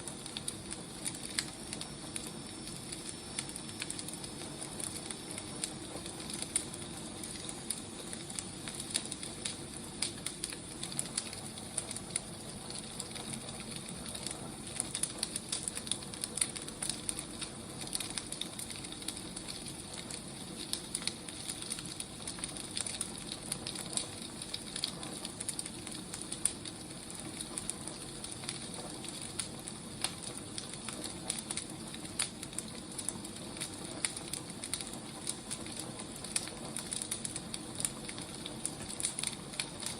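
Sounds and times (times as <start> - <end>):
firewood burning with pops: 0.0 - 39.9.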